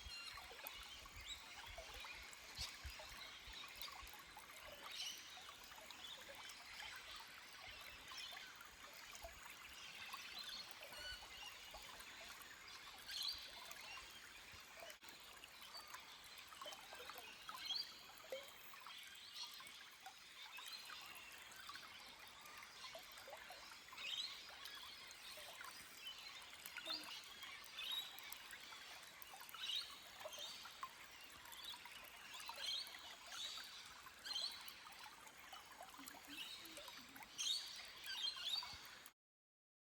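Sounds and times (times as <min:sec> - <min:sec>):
stream trickling over rocks: 0:00.0 - 0:39.2.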